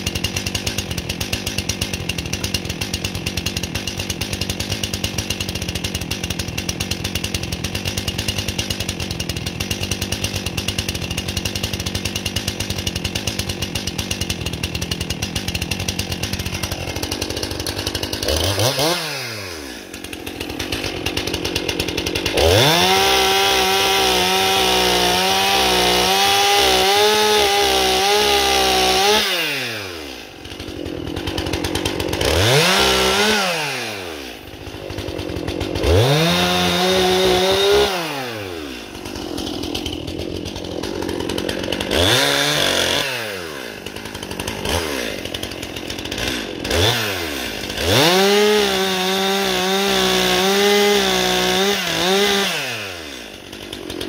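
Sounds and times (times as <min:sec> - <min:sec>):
chainsaw engine revving: 0:00.0 - 0:54.0.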